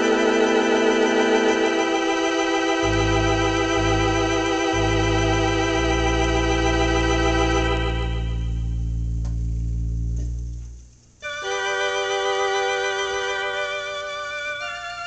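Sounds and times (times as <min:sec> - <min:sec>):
low organ bass notes: 0:00.0 - 0:15.0
organ sustained chord: 0:00.0 - 0:15.0.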